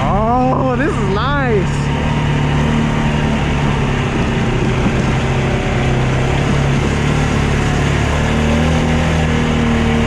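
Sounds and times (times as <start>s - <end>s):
four-wheeler engine running: 0.0s - 10.0s.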